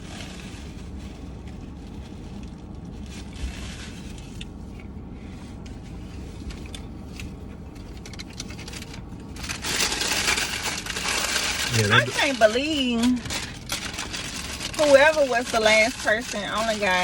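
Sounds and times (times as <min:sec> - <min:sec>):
paper wrappers rustling: 0:00.0 - 0:04.5, 0:06.2 - 0:17.0
low car interior hum: 0:00.0 - 0:17.0.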